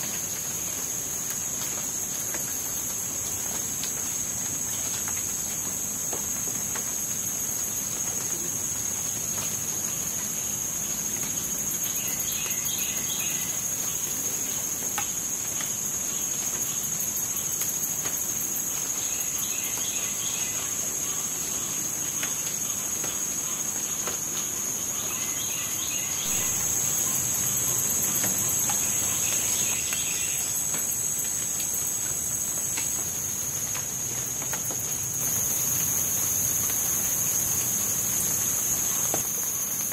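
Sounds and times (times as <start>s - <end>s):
insects trilling: 0.0s - 39.9s
rain dripping on water: 0.0s - 39.9s.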